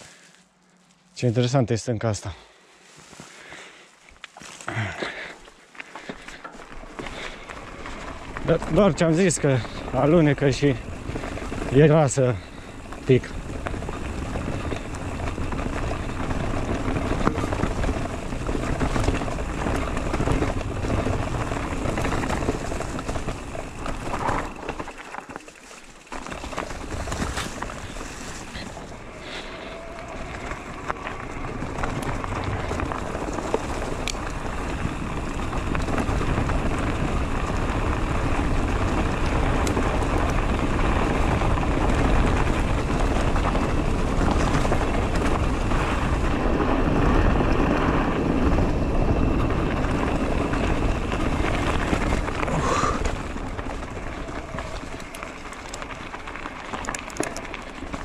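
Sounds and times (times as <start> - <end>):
bike tyres rattling over roots: 0.0 - 58.0.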